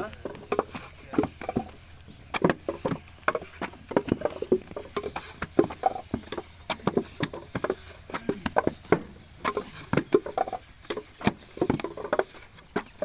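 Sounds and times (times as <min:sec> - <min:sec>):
wooden mould knocking on ground: 0:00.0 - 0:13.0.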